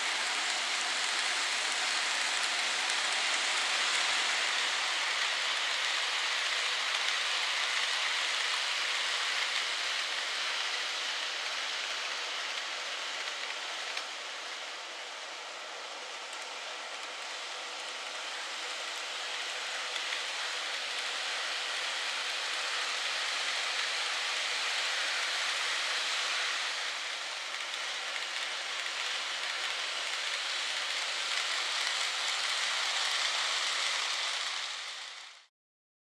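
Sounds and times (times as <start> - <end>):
model train running on track: 0.0 - 35.5.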